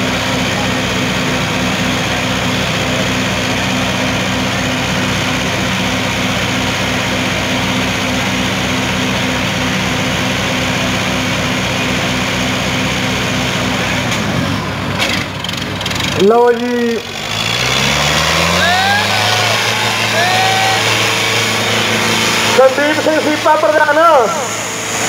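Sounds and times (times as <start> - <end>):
tractor diesel engines running: 0.0 - 25.0.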